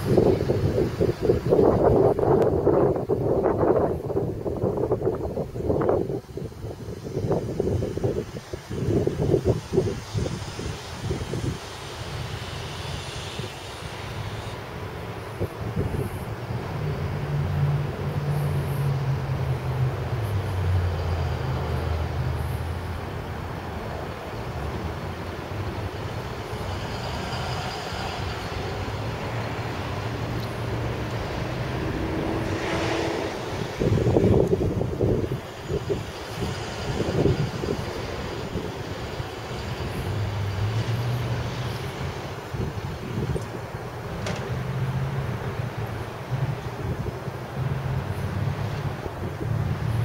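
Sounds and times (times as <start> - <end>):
faint hiss: 0.0 - 50.0
outdoor background noise: 0.0 - 50.0
wind buffeting microphone: 0.0 - 50.0
vehicle engine droning: 6.7 - 50.0.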